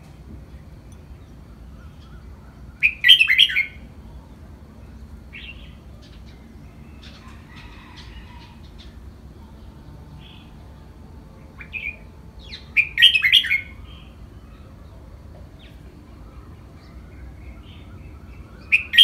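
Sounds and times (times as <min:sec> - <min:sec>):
bird chirping song: 0:00.0 - 0:19.0.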